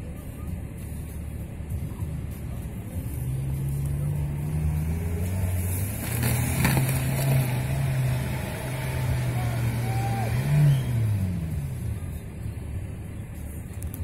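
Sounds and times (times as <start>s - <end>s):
engine running under load: 0.2s - 13.9s.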